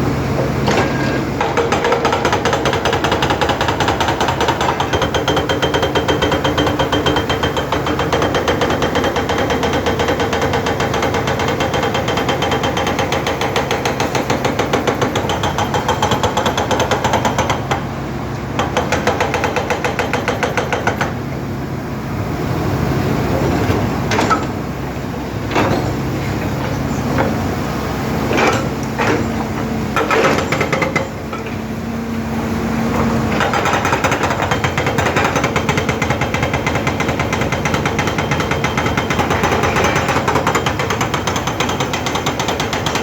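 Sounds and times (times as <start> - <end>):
excavator diesel engine: 0.0 - 43.0.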